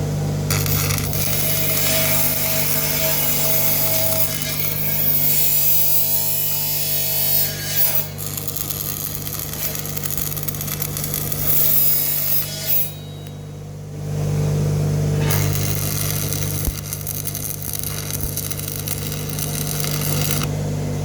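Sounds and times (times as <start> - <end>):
power tool grinding metal: 0.5 - 13.3, 15.1 - 20.6.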